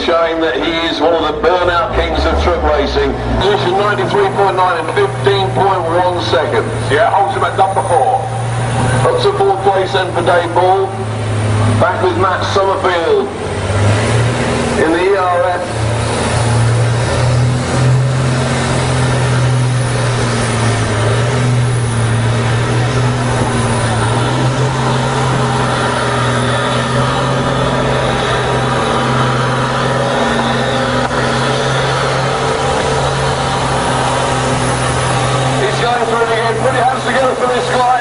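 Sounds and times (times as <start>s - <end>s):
truck diesel engine at high revs: 0.0s - 38.0s.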